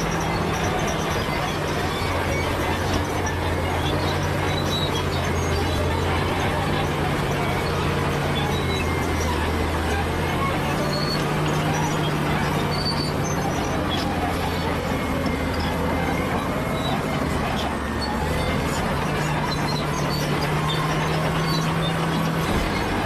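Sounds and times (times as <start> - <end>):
bulldozer diesel engine running: 0.0 - 23.0
short high squeaks: 0.0 - 23.0.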